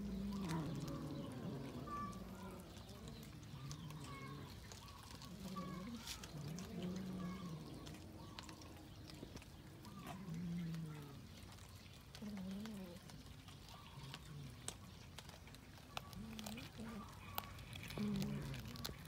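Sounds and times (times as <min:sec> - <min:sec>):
cats growling: 0:00.0 - 0:19.0
wet chewing clicks: 0:00.0 - 0:19.0.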